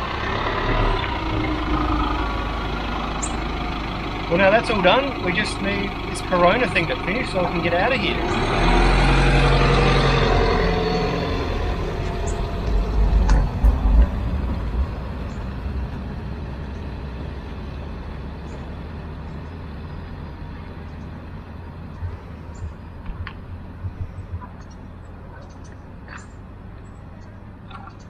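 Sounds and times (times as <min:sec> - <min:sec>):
vehicle towing caravan driving past: 0:00.0 - 0:25.1.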